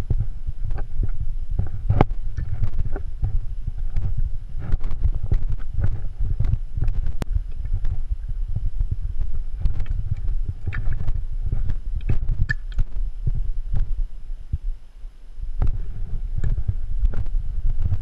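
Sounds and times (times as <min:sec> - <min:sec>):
wind buffeting microphone: 0:00.0 - 0:14.8, 0:15.4 - 0:18.0.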